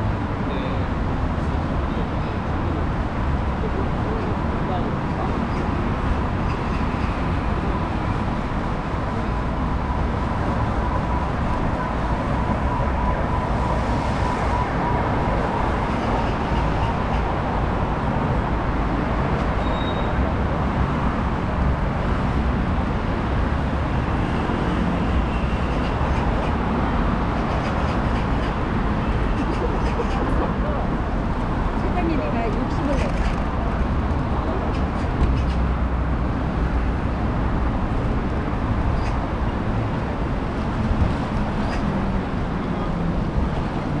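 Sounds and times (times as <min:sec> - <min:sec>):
road traffic noise: 0:00.0 - 0:44.0.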